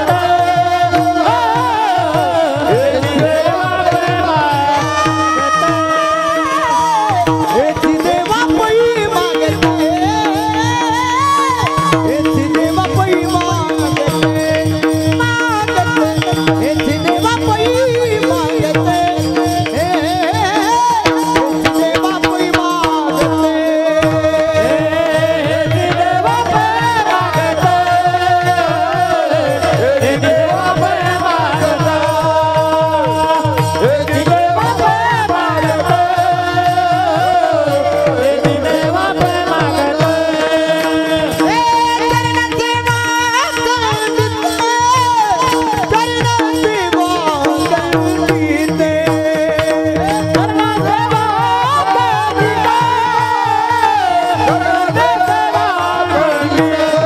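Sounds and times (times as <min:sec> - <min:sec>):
drum beat: 0:00.0 - 0:57.0
men singing in chorus: 0:00.0 - 0:57.0.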